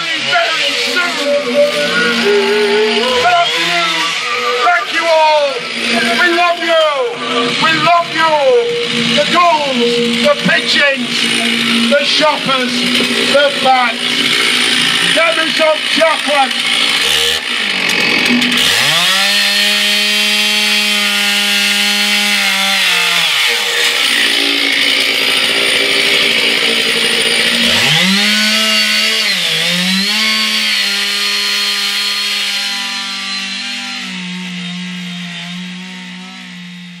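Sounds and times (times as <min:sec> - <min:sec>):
chainsaw cutting logs: 0:00.0 - 0:37.0.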